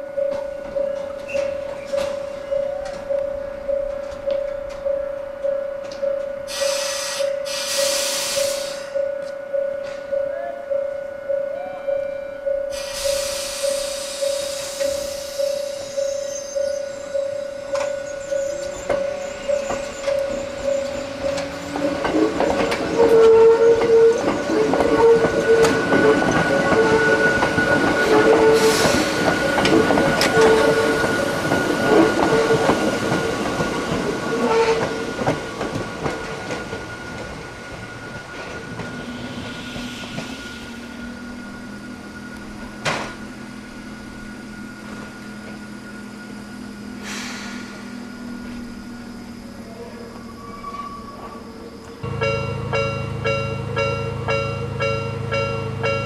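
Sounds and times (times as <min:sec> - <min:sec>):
train low hum: 0:00.0 - 0:56.0
train wheels clattering and squealing: 0:00.2 - 0:03.2, 0:05.9 - 0:10.1, 0:12.7 - 0:52.1.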